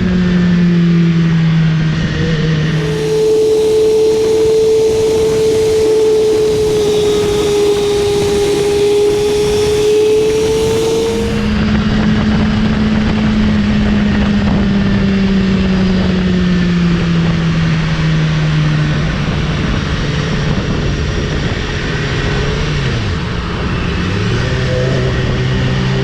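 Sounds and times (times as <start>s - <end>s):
motorcycle engine cruising: 0.0s - 26.0s
wind noise: 0.0s - 26.0s.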